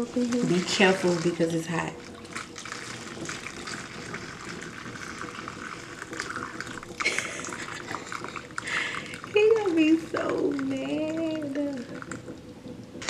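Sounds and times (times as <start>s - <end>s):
liquid pouring into a plastic tub: 0.0s - 13.0s.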